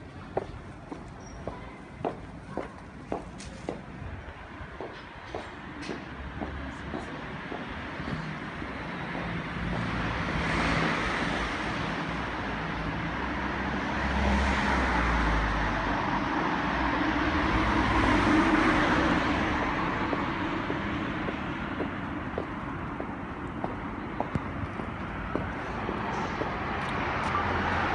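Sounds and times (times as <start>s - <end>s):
vehicles passing: 0.0s - 27.9s.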